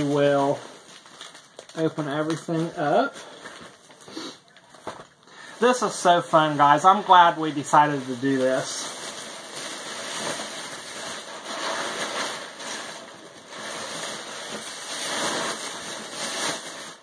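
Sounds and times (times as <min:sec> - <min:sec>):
paper and packaging crinkling: 0:00.0 - 0:17.0.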